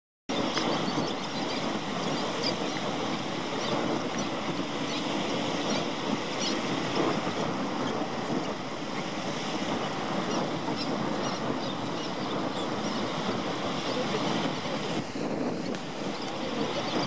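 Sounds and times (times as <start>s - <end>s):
small waves lapping on shore: 0.3s - 17.0s.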